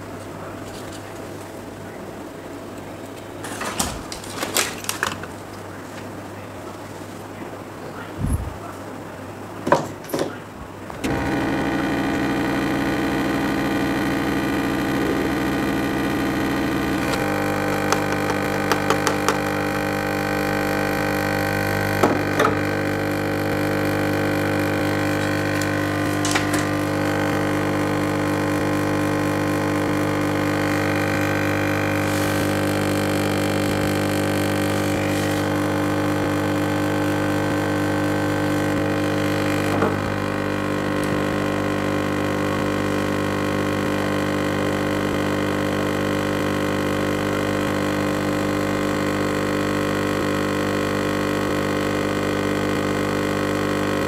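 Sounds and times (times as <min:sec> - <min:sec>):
hot-air gun blower hum: 0:10.7 - 0:54.0.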